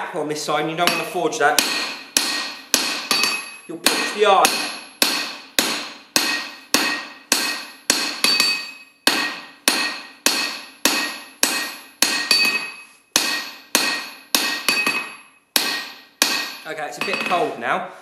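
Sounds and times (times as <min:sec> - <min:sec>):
hammer striking hot steel on anvil: 0:00.8 - 0:17.5.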